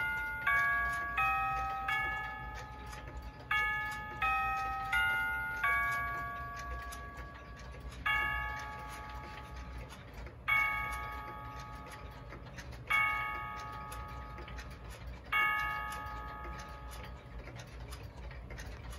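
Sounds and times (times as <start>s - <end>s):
electronic cuckoo clock bell strikes: 0.0s - 18.1s
clock ticking: 0.0s - 18.9s.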